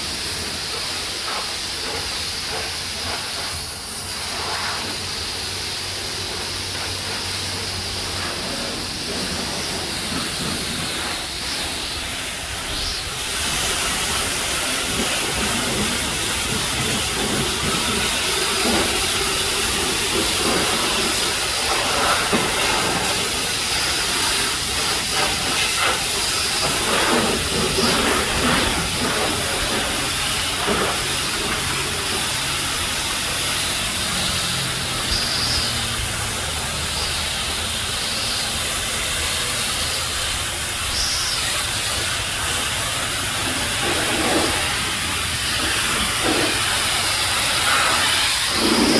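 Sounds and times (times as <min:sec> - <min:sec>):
pressure washer spraying water: 0:00.0 - 0:48.9.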